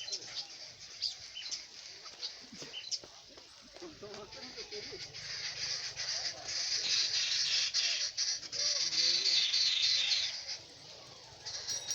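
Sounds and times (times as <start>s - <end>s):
birds chattering: 0.0s - 11.9s.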